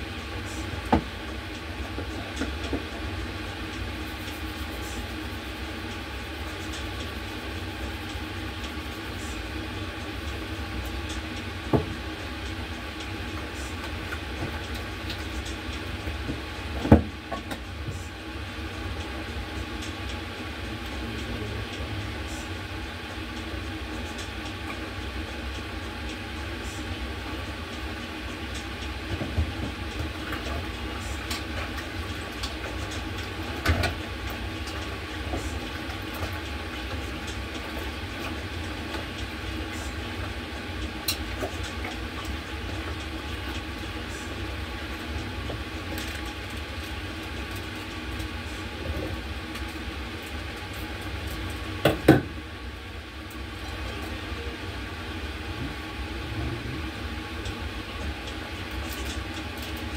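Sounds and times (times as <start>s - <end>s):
low mechanical rumble and hum: 0.0s - 59.9s.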